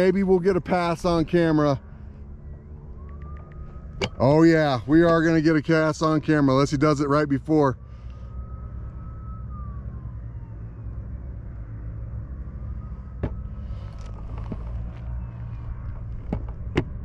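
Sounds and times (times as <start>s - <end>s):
off-road engines rumbling: 0.0s - 17.0s
siren wailing: 0.0s - 17.0s.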